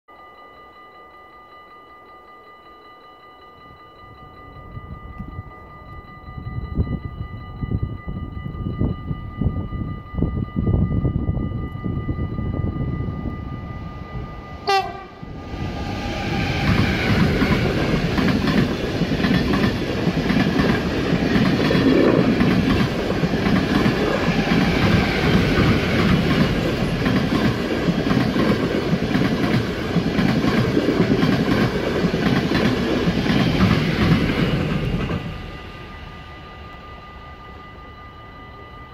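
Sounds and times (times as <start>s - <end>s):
train passing at speed: 3.6s - 38.9s.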